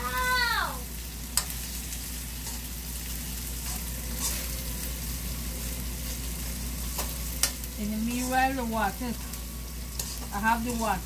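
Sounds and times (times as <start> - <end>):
oil sizzling in a pan: 0.0 - 11.0
rice stirred and scraped in pan: 1.2 - 11.0.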